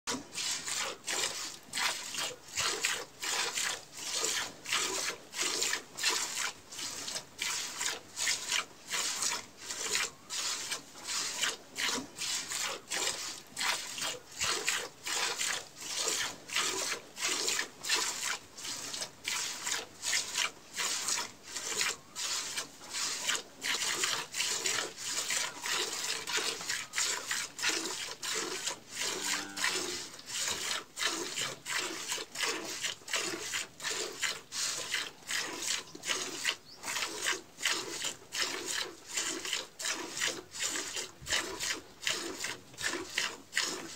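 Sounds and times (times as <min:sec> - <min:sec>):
milk squirting into steel bucket: 0:00.1 - 0:43.9.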